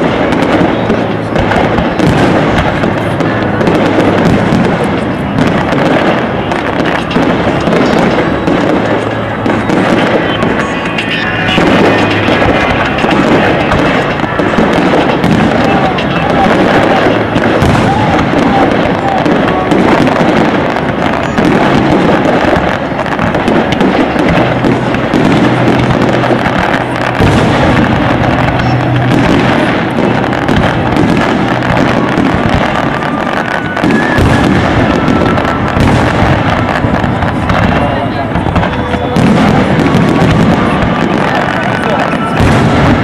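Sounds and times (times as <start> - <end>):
fireworks bursting and crackling: 0.0 - 43.0
music playing: 0.0 - 43.0.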